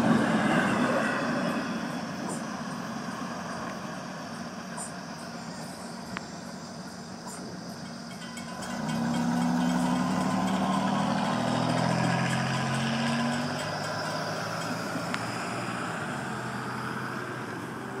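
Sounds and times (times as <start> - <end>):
vehicle engine low note: 0.0 - 18.0
vehicles crossing with tyre noise: 0.0 - 18.0.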